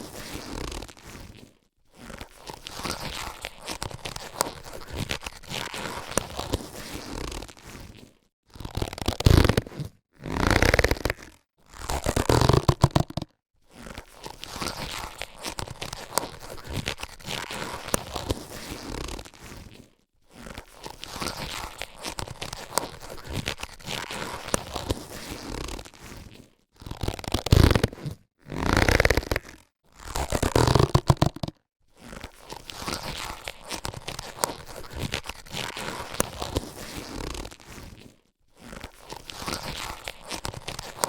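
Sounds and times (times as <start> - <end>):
latex gloves crackling and rustling: 0.0 - 41.0.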